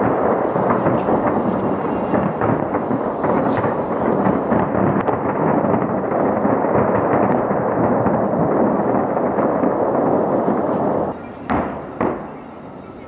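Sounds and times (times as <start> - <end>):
fireworks barrage: 0.0 - 13.0.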